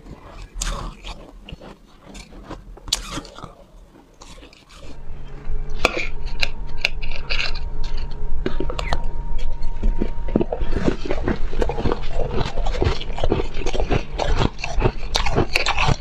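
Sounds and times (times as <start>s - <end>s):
chewing crunchy ice: 0.0s - 5.0s, 5.8s - 16.0s
steady low hum: 0.0s - 16.0s.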